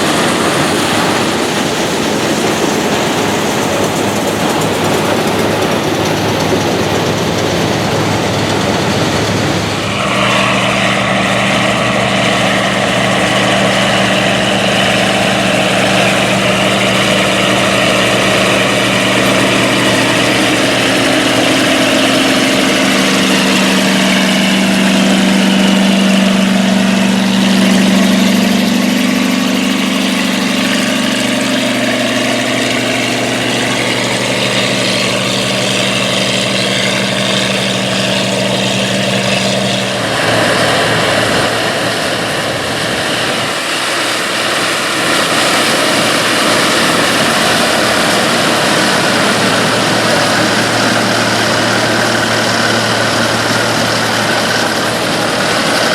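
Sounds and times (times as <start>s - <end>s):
combine harvester engines running: 0.0s - 55.9s
harvesting machinery whir and clatter: 0.0s - 55.9s
rough machine clatter: 0.0s - 55.9s.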